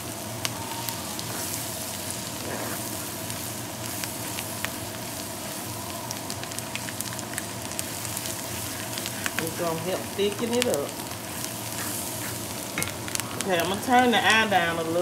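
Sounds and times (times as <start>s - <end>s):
corn sizzling in a skillet: 0.0s - 15.0s.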